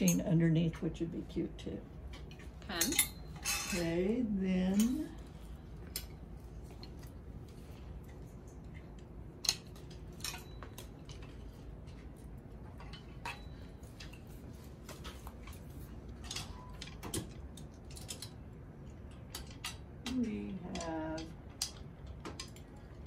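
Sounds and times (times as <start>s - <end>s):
wooden hangers clacking on metal rails: 2.0s - 7.2s, 8.1s - 23.0s.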